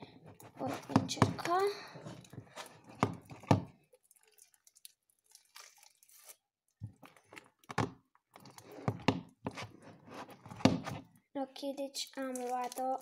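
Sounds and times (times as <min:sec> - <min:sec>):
slime squelching and crackling: 0:00.3 - 0:11.0, 0:11.8 - 0:13.0.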